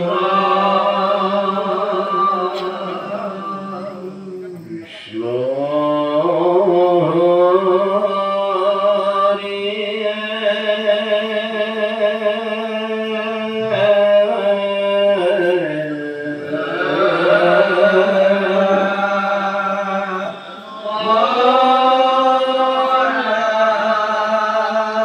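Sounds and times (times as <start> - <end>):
congregation chanting: 0.0 - 25.0.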